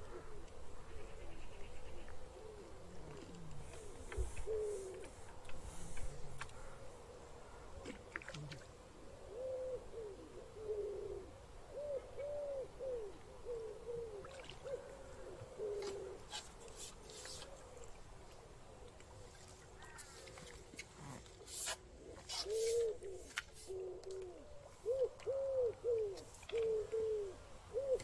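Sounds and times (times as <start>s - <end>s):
pigeon cooing: 1.2s - 6.9s, 7.8s - 17.9s, 21.0s - 28.0s.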